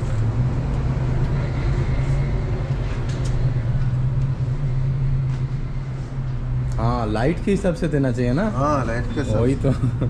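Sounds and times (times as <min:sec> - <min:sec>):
low mechanical hum of machinery: 0:00.0 - 0:10.0.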